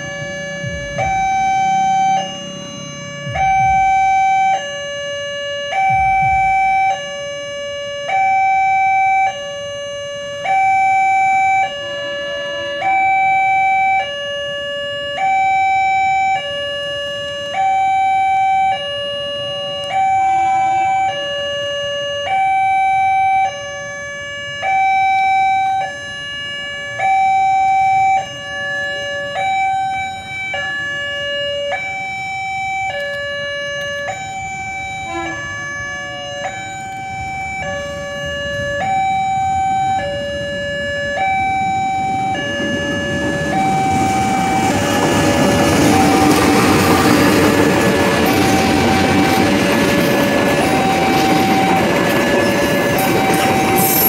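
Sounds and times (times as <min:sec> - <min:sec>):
two-tone level-crossing alarm: 0:00.0 - 0:54.0.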